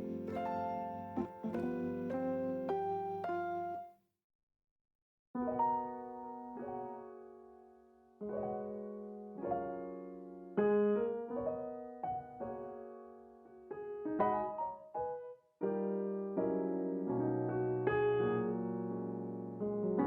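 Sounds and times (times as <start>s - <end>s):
piano music: 0.0s - 3.9s, 5.4s - 20.0s.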